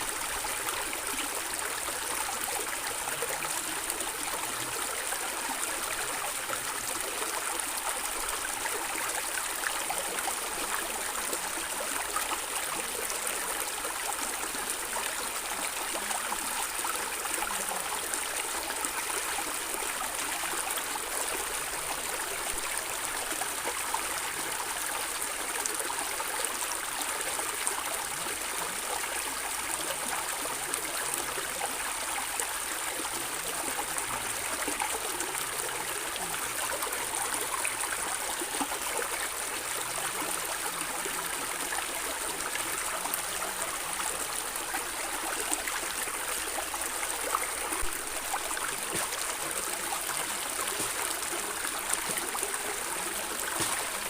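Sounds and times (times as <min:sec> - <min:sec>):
stream water flowing over rocks: 0:00.0 - 0:54.0.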